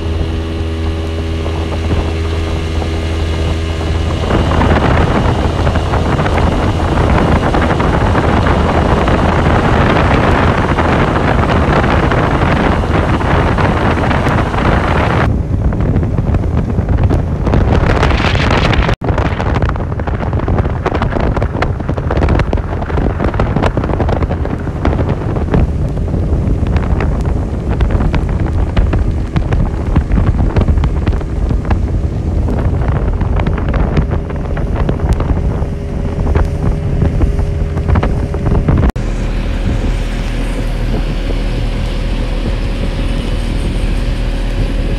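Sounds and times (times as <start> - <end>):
outboard motor running: 0.0 - 44.9
wind buffeting microphone: 0.0 - 44.9.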